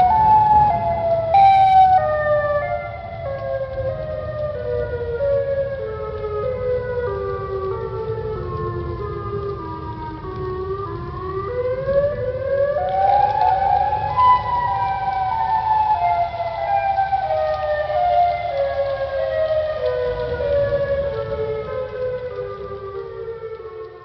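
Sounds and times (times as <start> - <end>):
low rumbling hiss: 0.0 - 24.0.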